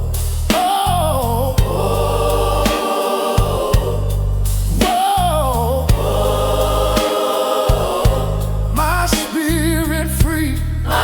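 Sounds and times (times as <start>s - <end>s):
bass and drums: 0.0s - 2.8s, 3.4s - 11.0s
gospel choir singing: 0.0s - 11.0s.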